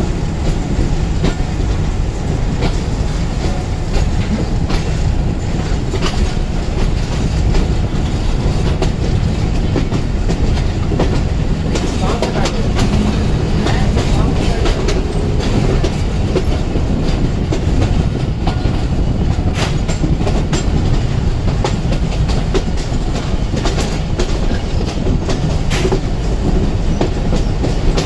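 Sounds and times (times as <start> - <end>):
train rumbling on rails: 0.0 - 28.0
train wheels clicking and clattering: 0.0 - 28.0.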